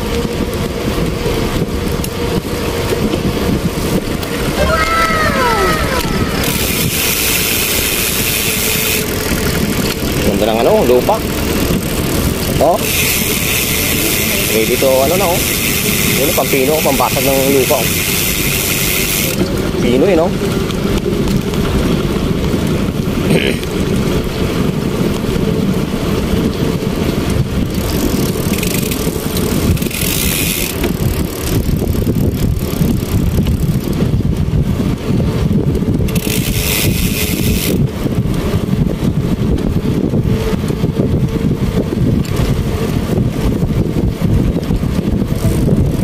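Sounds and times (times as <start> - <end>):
motorcycle engine rumbling: 0.0 - 46.0
wind buffeting microphone: 0.0 - 46.0.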